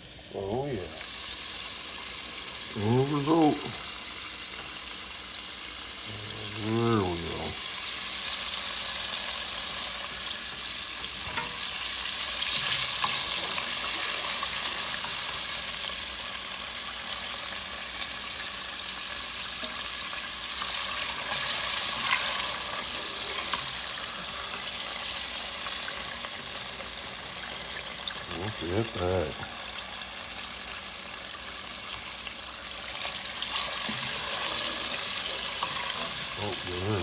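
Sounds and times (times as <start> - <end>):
meat deep-frying in oil: 0.0 - 37.0.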